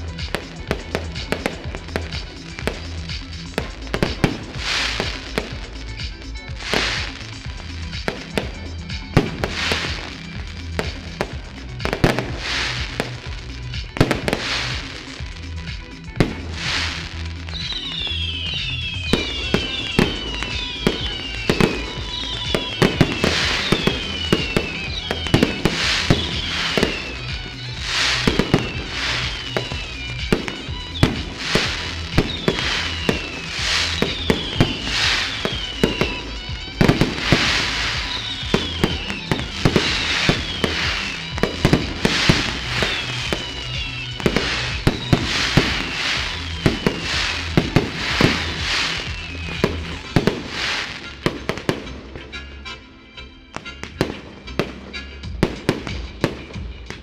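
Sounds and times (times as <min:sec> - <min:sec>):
fireworks bangs and crackles: 0:00.0 - 0:52.5, 0:53.5 - 0:57.0
falling firework whistles: 0:00.0 - 0:52.6
background music with low bass: 0:00.0 - 0:57.0.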